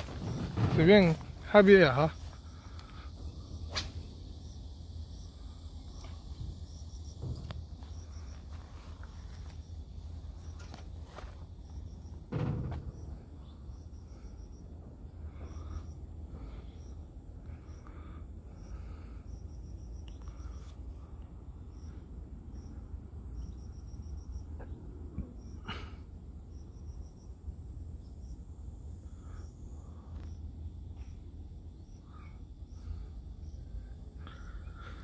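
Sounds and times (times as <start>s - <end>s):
insect chirps: 0.0s - 35.0s
insects buzzing: 0.0s - 35.0s.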